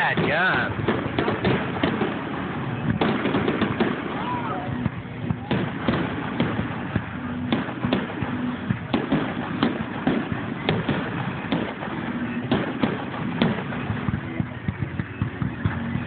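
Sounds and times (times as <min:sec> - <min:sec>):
firework shells bursting: 0:00.0 - 0:15.9
crackle of small fireworks: 0:00.0 - 0:16.0.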